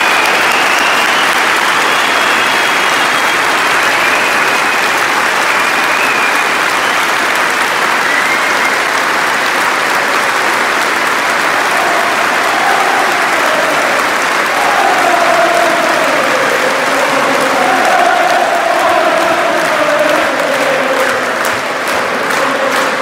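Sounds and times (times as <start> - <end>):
stadium crowd applauding: 0.0 - 23.0.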